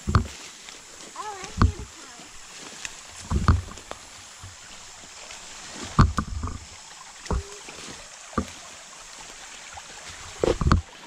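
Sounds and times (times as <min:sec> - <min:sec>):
creek running: 0:00.0 - 0:11.0.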